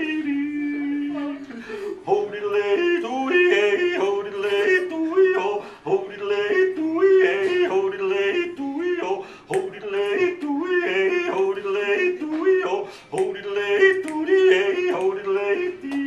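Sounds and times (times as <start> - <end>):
man yodeling: 0.0 - 1.4, 2.0 - 16.0.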